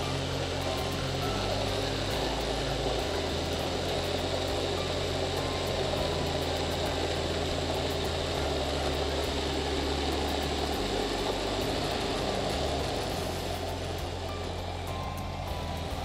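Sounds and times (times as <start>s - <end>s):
blender motor humming: 0.0s - 16.0s.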